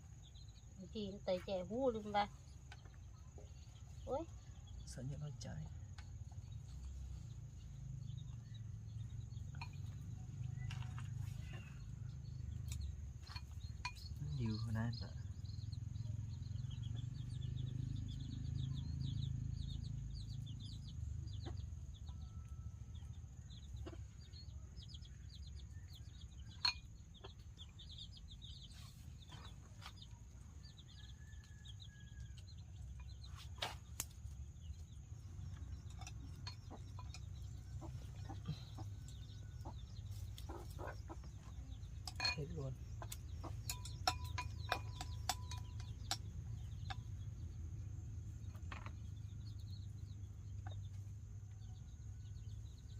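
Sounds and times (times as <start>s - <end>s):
chickens clucking and peeping: 0.0s - 52.9s.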